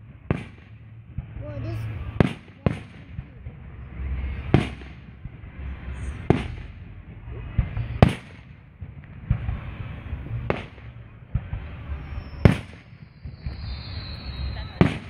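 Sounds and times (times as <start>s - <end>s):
firework shells bursting: 0.0s - 15.0s
low rumble: 0.0s - 15.0s.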